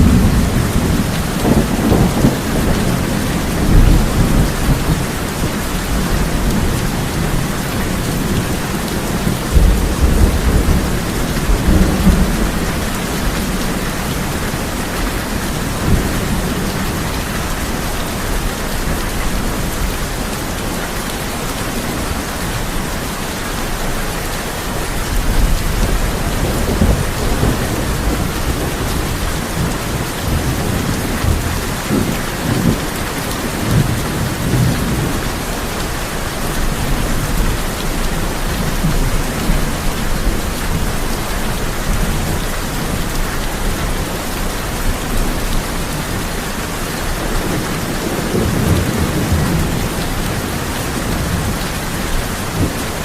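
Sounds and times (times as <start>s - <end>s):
thunder rumbling: 0.0s - 20.4s, 24.8s - 53.0s
heavy rain on a tin roof: 0.0s - 53.0s.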